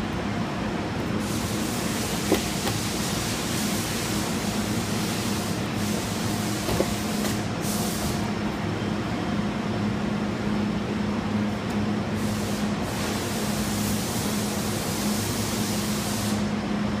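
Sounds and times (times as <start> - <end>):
low mechanical hum with hiss: 0.0 - 17.0.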